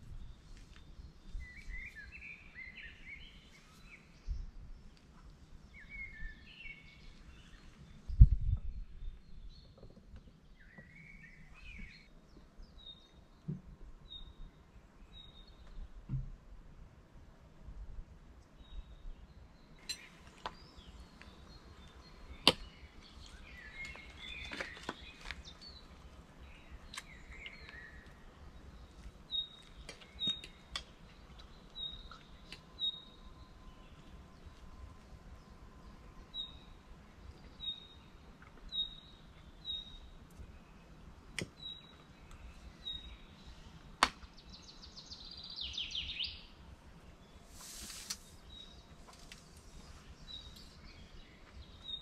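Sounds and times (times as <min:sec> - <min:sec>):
faint outdoor background: 0:00.0 - 0:52.0.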